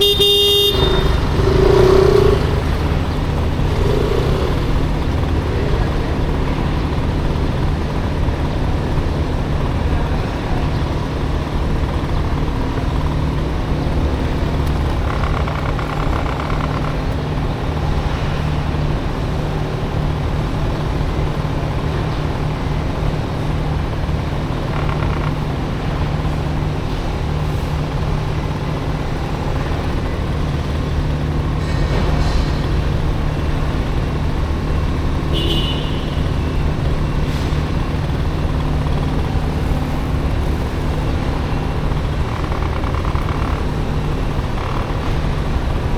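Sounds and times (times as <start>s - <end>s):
city traffic: 0.0s - 45.9s
scooter engine running: 0.0s - 45.9s.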